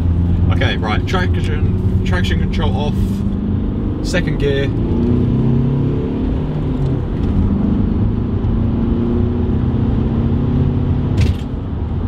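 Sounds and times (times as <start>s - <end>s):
diesel engine accelerating: 0.0s - 12.0s.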